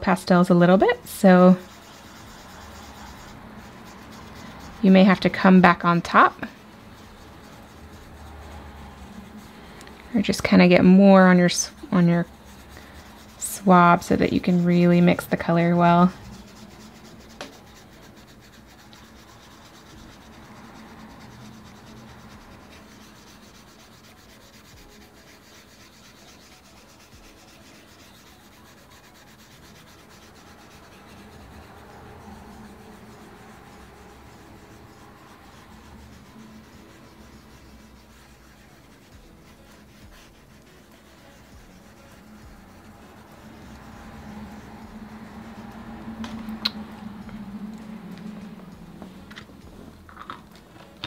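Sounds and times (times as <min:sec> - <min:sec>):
cotton swab scrubbing paper: 0:00.9 - 0:48.9.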